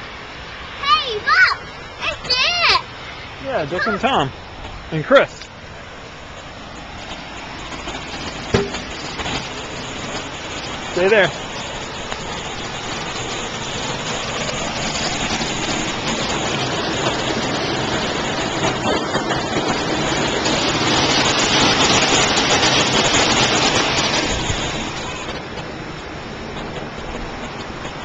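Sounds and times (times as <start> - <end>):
rain pattering on ground: 0.0 - 28.0.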